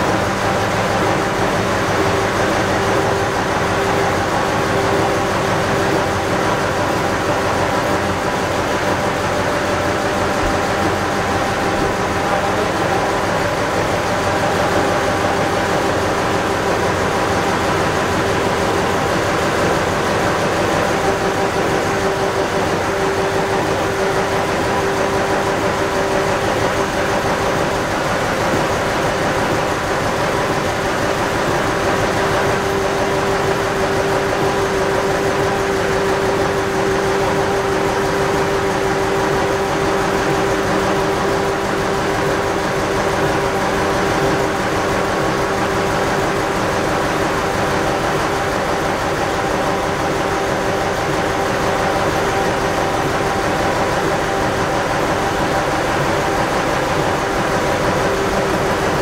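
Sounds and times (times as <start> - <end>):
machinery humming with whine: 0.0 - 59.0.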